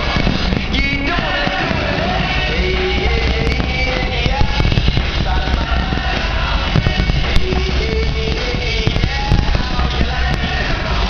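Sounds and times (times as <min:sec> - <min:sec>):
firework bangs and crackles: 0:00.0 - 0:11.0
loud music with singing: 0:00.0 - 0:11.0.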